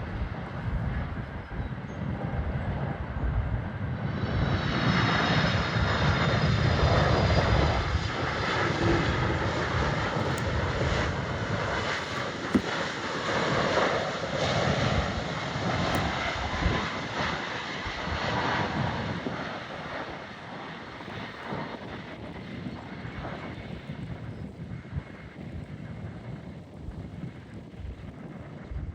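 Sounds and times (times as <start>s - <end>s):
jet engines passing: 2.2s - 25.6s.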